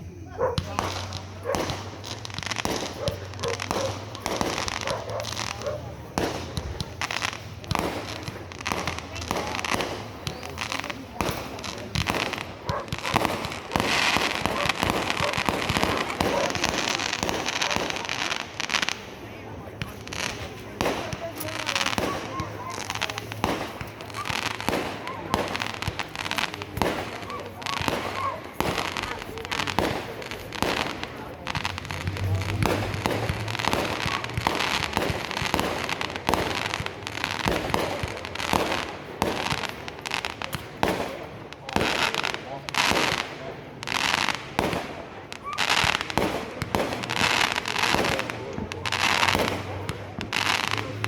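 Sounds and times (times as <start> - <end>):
fireworks crackling and banging: 0.0 - 51.0.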